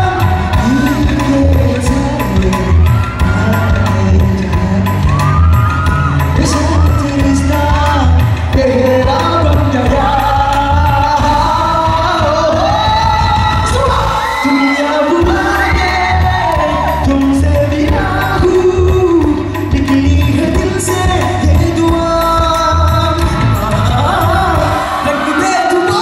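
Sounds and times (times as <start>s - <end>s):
bass line: 0.0s - 14.4s, 15.0s - 26.0s
live band music: 0.0s - 26.0s
man singing: 0.0s - 26.0s.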